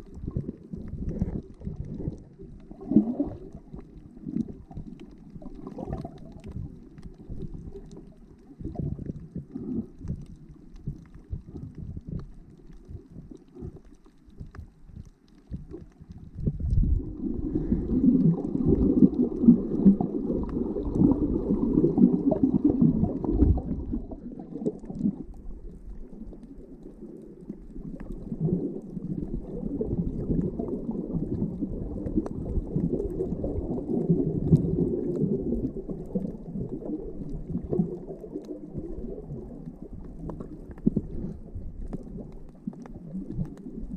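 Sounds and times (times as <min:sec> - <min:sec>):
muffled underwater rumbling: 0:00.0 - 0:43.9.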